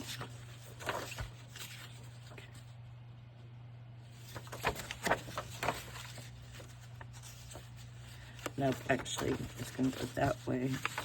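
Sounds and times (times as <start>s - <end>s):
paper rustling: 0.0s - 3.1s, 4.0s - 11.0s.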